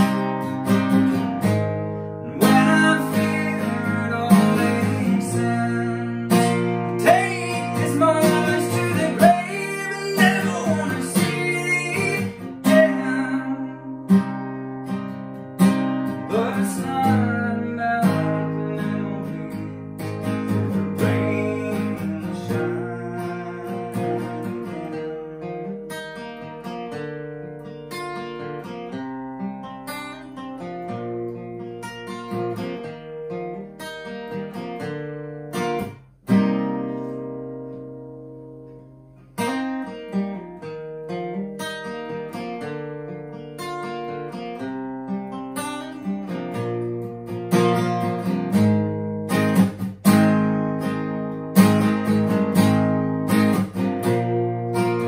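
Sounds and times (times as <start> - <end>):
acoustic guitar chords: 0.0 - 55.0.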